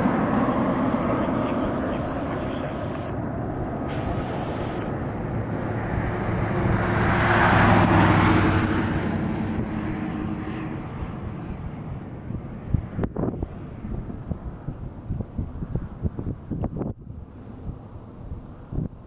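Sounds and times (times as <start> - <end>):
military aircraft passing overhead: 0.0 - 19.0.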